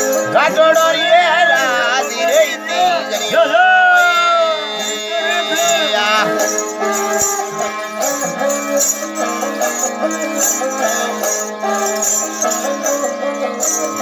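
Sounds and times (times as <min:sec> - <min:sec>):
bowed fiddle melody: 0:00.0 - 0:14.0
jingling bells: 0:00.0 - 0:14.0
person singing: 0:00.0 - 0:14.0.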